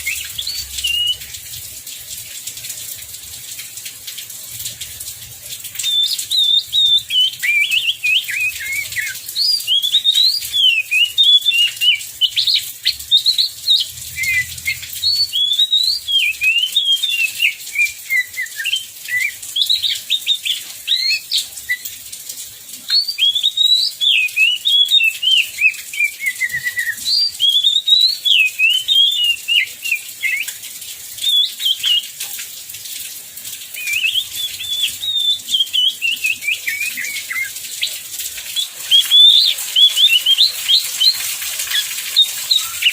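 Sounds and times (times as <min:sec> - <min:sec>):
bird singing whistled notes: 0:00.0 - 0:01.3, 0:05.8 - 0:21.9, 0:22.9 - 0:30.6, 0:31.2 - 0:32.0, 0:33.8 - 0:42.9.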